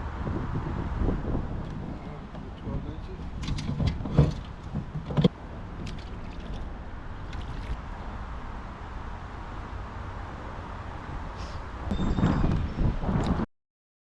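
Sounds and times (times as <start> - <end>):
steady low rumble: 0.0 - 13.4.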